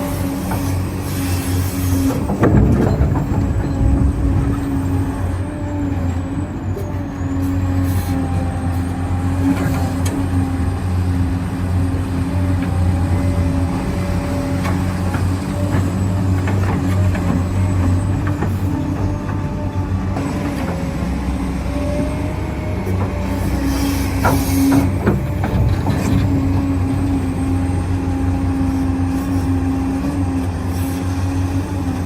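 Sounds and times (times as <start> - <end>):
electric motors humming and whining: 0.0 - 32.0.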